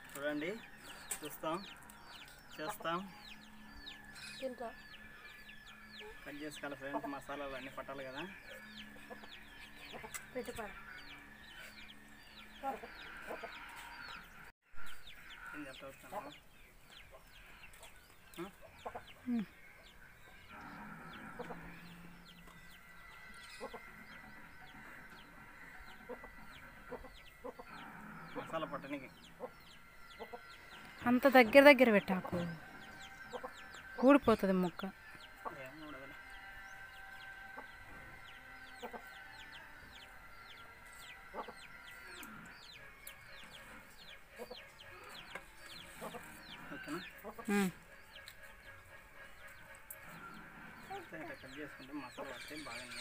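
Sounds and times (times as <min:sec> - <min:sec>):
faint chickens clucking: 0:00.0 - 0:31.1, 0:31.9 - 0:53.0
birds peeping: 0:00.0 - 0:53.0.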